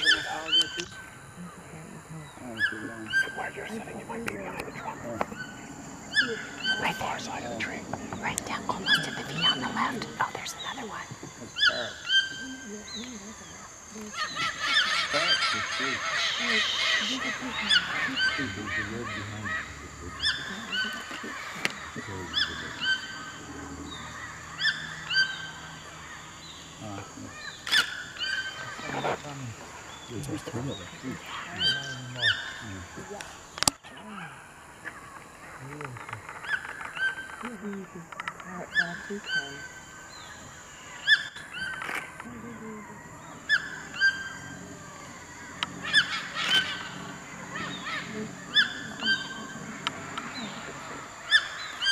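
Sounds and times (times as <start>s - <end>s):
macaws squawking: 0.0s - 1.2s, 2.6s - 26.3s, 27.1s - 29.2s, 36.2s - 51.9s
bird calling: 0.0s - 51.9s.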